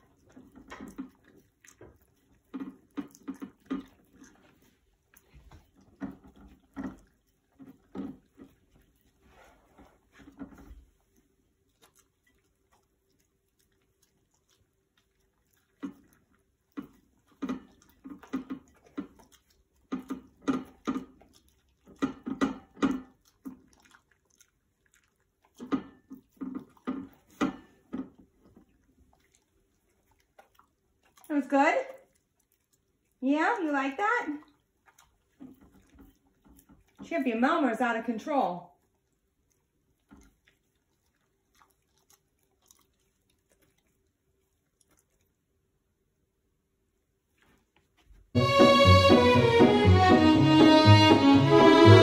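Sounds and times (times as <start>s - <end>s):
dogs licking plates: 0.0s - 46.0s.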